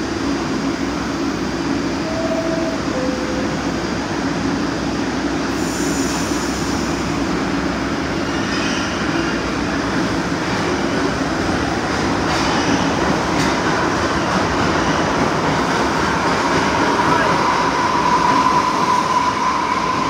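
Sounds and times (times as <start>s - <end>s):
subway train rail rumble: 0.0s - 20.0s.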